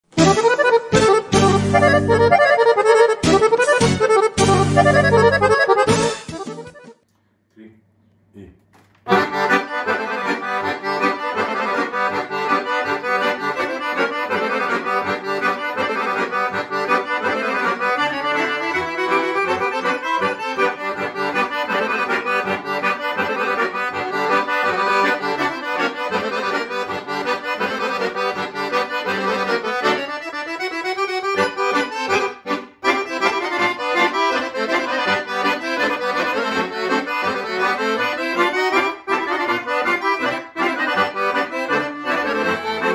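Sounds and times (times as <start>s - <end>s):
accordions playing folk dance tune: 0.0s - 7.0s, 9.1s - 42.9s.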